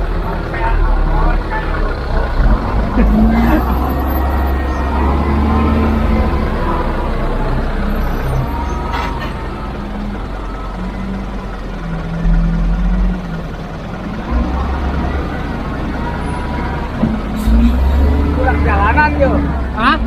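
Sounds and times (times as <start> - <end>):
diesel machinery engine rumbling: 0.0 - 20.0.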